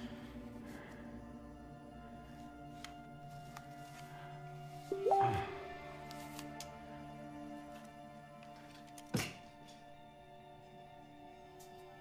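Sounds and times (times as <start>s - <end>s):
quiet music with held notes: 0.0s - 12.0s.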